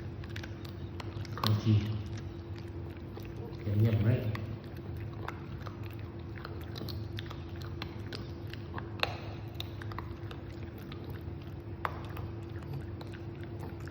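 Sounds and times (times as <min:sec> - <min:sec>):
crunchy snack being chewed: 0:00.0 - 0:13.9
steady low hum: 0:00.0 - 0:13.9.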